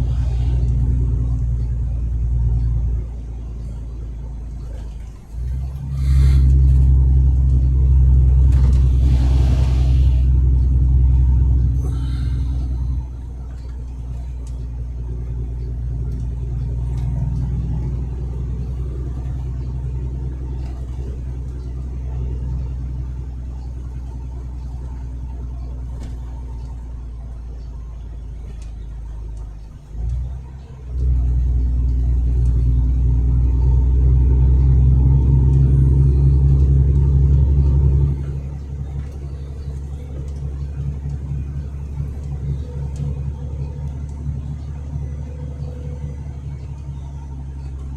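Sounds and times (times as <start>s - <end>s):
truck engine droning: 0.0s - 47.9s.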